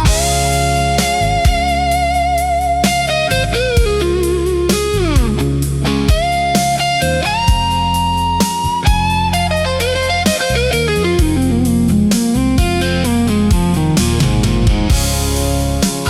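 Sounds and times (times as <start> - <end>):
slow blues instrumental: 0.0 - 16.0.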